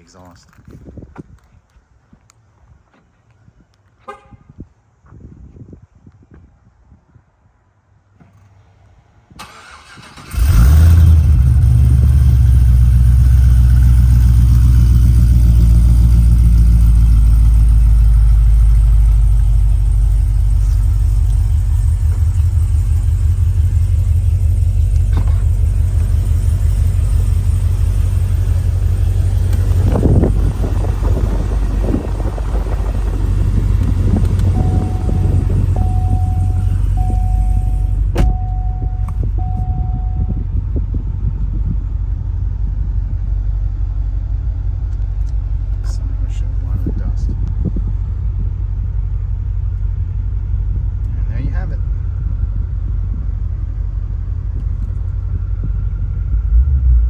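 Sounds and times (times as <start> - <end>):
car engine starting and idling: 9.3 - 57.0.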